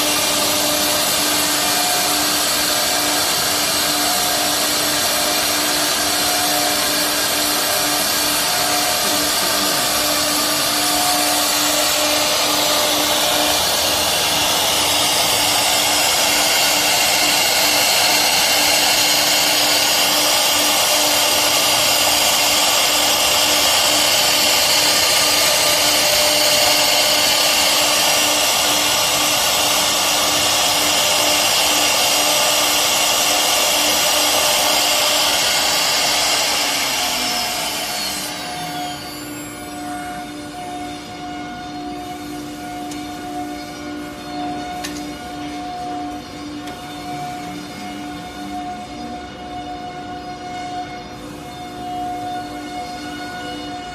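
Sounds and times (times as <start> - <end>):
router spindle whining: 0.0 - 53.9.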